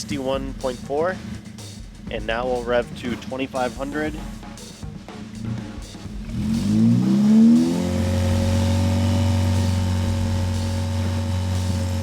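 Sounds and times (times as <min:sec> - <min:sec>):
car engine revving: 0:02.2 - 0:12.0.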